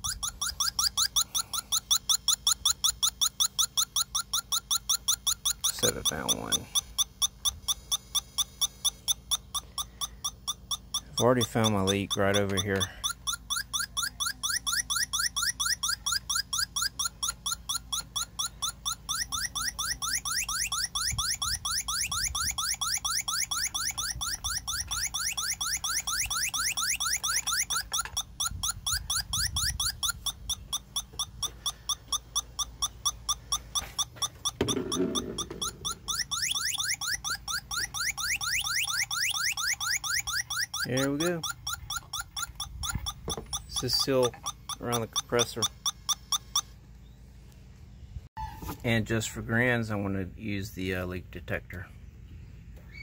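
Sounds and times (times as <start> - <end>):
leak detector rising chirps: 0.0 - 48.9.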